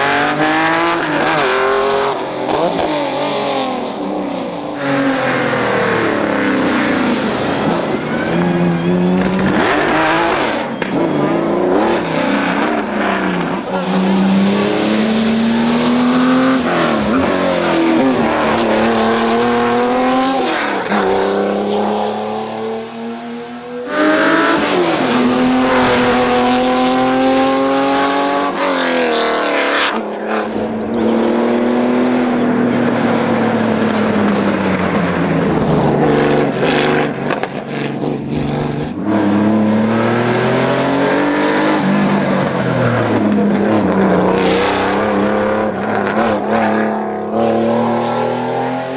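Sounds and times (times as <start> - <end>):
rally car engines accelerating hard: 0.0 - 48.9.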